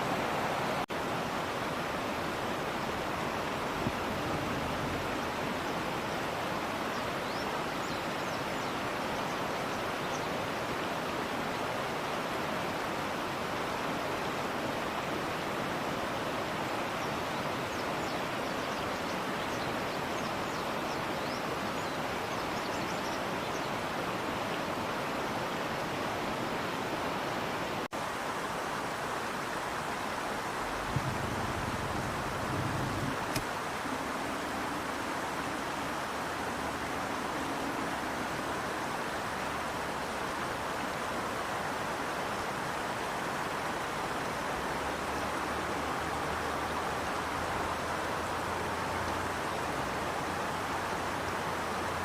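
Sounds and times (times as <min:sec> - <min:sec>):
river water rushing: 0:00.0 - 0:52.0.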